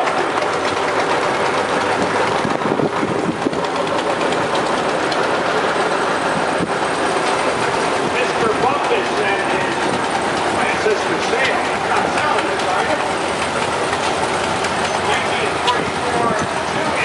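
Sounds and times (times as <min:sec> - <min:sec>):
tractor engines driving past: 0:00.0 - 0:17.0.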